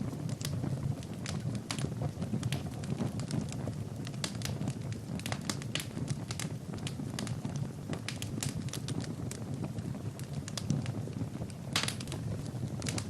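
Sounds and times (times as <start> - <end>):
fire crackling and popping: 0.0 - 13.0
low rush of flame: 0.0 - 13.0.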